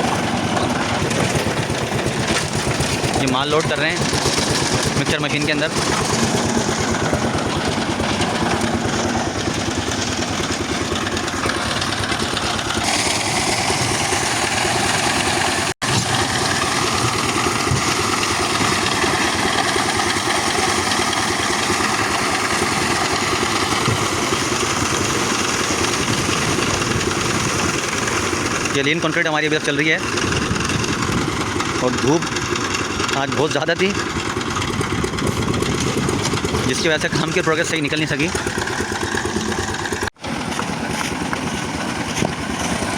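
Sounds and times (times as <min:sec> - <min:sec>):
concrete mixer running: 0:00.0 - 0:42.9.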